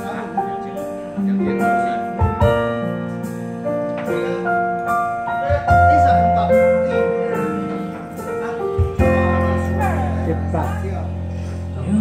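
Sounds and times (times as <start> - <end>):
keyboard piano playing chords: 0.0 - 12.0.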